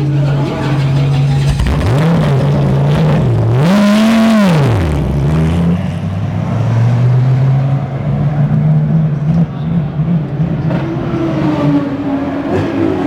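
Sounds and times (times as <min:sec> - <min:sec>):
race car engine revving: 0:00.0 - 0:13.0
steady engine hum: 0:00.0 - 0:13.0.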